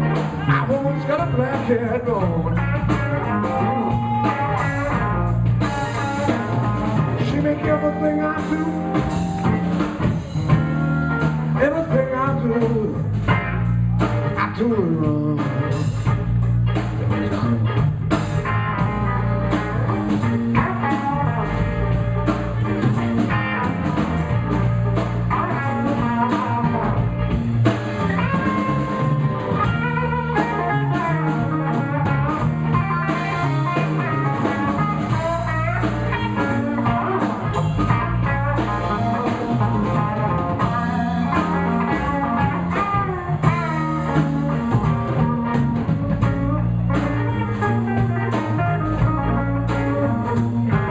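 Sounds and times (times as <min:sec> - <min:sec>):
drum kit: 0:00.0 - 0:50.9
electric guitar lead: 0:00.0 - 0:50.9
walking bass line: 0:00.0 - 0:50.9.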